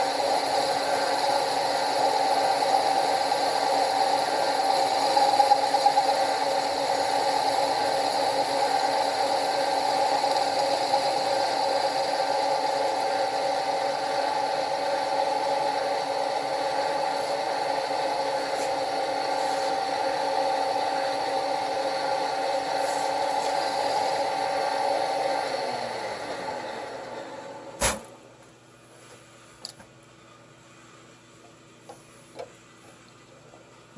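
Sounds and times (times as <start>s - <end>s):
milling machine humming and whining: 0.0s - 28.3s.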